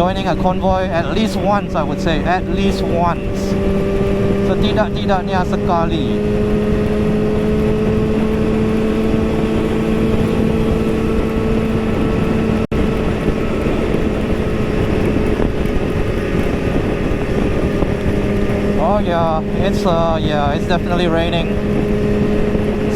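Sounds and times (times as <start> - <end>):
motorcycle engine cruising: 0.0 - 22.9
wind rushing over microphone: 0.0 - 22.9.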